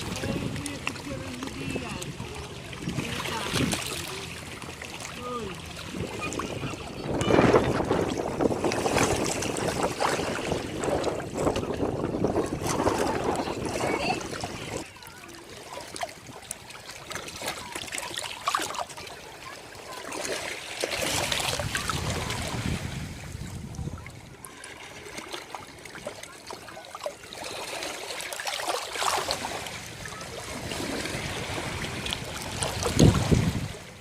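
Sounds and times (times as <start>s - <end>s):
ocean waves washing on beach: 0.0s - 34.0s.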